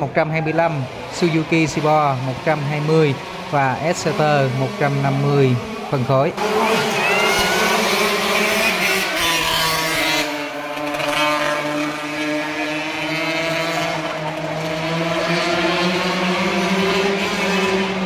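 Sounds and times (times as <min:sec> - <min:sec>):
motorcycle engines revving high: 0:00.0 - 0:18.0.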